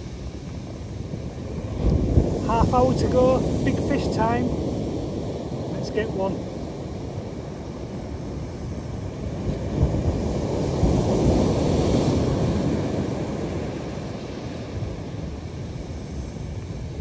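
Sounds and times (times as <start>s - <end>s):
wave breaking on shore: 0.0s - 17.0s
wind on microphone: 0.0s - 17.0s.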